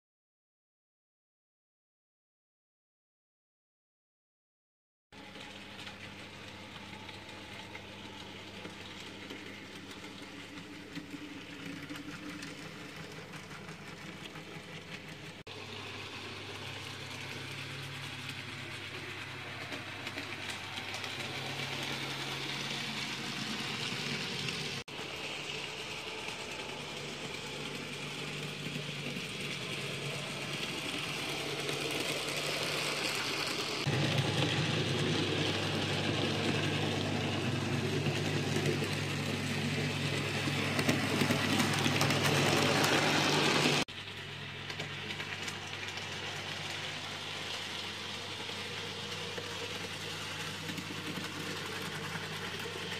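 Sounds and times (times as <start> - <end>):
model train motor hum: 5.2 - 52.9
small wheels whirring on track: 5.2 - 52.9.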